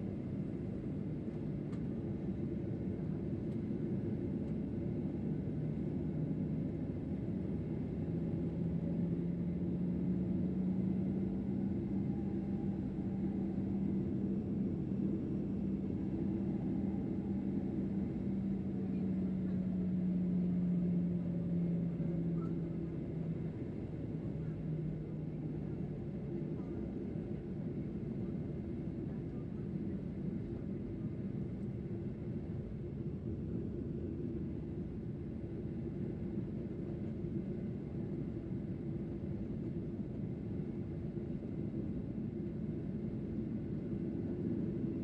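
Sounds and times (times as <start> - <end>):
jet engine cabin hum: 0.0 - 45.0.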